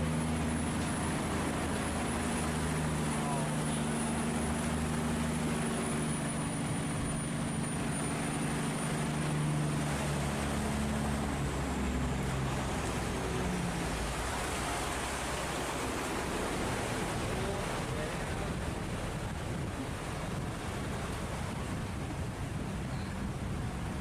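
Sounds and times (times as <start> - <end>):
boat engine droning: 0.0 - 24.0
fast-flowing water: 0.0 - 24.0
wind: 0.0 - 24.0.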